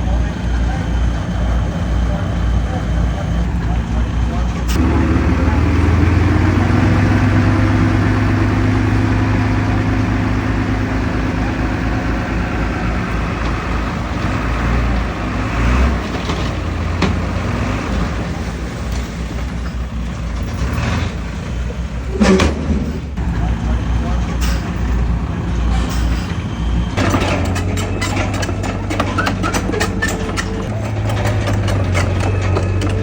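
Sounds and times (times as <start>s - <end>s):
diesel machinery engine running: 0.0s - 33.0s.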